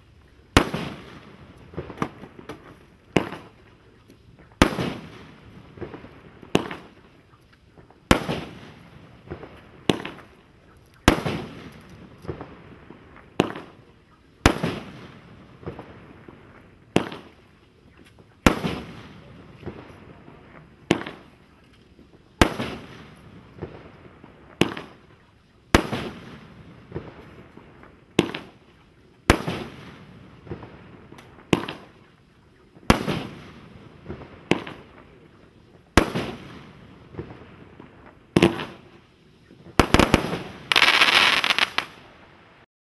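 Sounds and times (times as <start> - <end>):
firework sharp bangs: 0.0 - 3.6, 4.6 - 7.0, 8.0 - 10.4, 11.0 - 13.8, 14.4 - 17.4, 18.3 - 21.4, 22.4 - 28.6, 29.3 - 32.0, 32.8 - 35.2, 35.9 - 39.0, 39.7 - 42.1.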